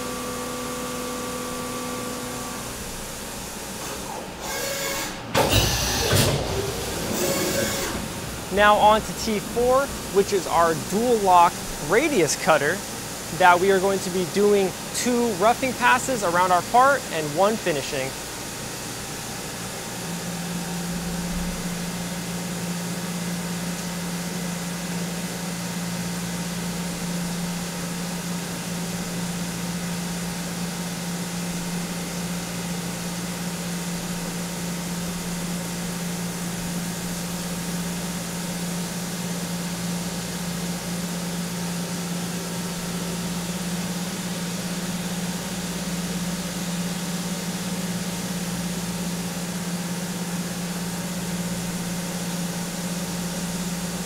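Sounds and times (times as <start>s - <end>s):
milling machine humming: 0.0s - 54.0s.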